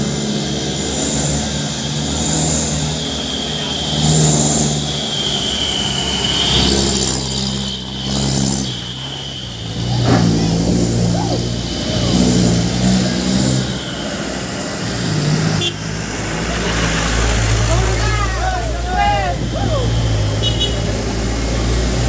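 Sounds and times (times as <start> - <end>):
diesel truck engine labouring: 0.0 - 22.0
truck engine passing: 0.0 - 22.0.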